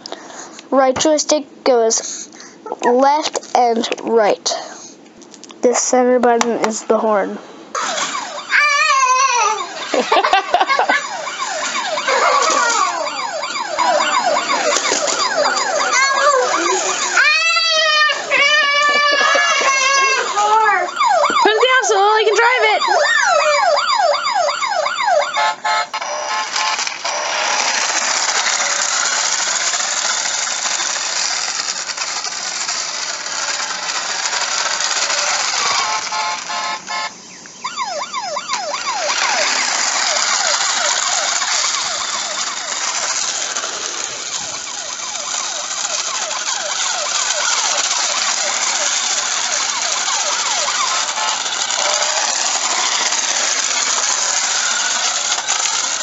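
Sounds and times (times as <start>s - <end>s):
toy siren wailing: 7.8s - 56.0s.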